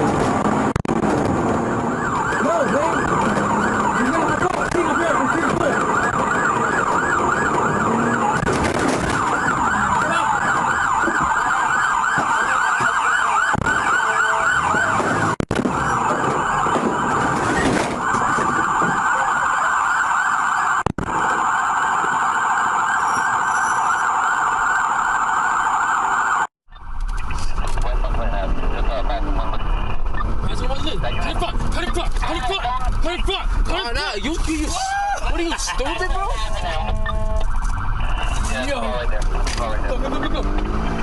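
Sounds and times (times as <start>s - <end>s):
police siren yelping: 0.0s - 26.5s, 30.0s - 41.0s.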